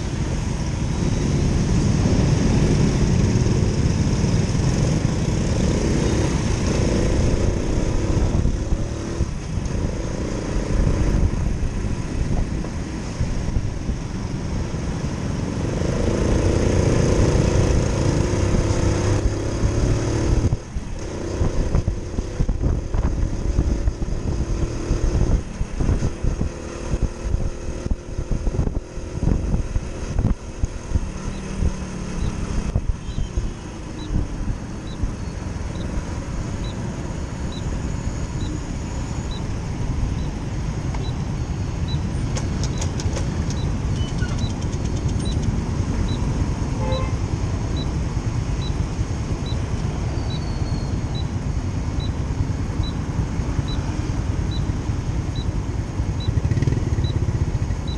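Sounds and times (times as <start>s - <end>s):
motorcycle engine revving: 0.0s - 41.2s, 41.8s - 57.9s.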